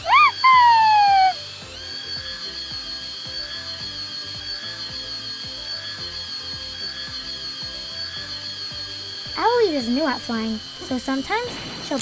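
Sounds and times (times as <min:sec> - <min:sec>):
small electric motor whine: 0:00.0 - 0:12.0.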